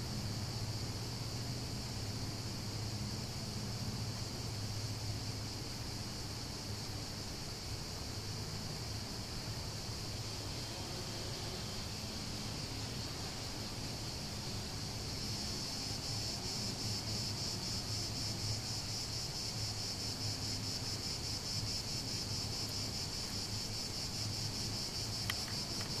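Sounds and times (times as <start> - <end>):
cicadas chirring: 0.0 - 26.0.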